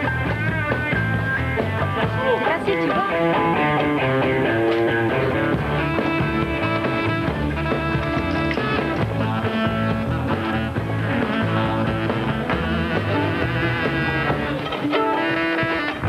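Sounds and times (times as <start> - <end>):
electric guitar: 0.0 - 16.0
live band playing rock music: 0.0 - 16.0.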